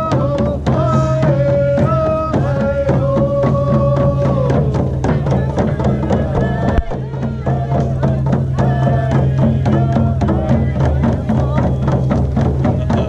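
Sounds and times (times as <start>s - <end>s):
voices singing long notes: 0.0s - 12.2s
hand drums beating: 0.0s - 13.0s.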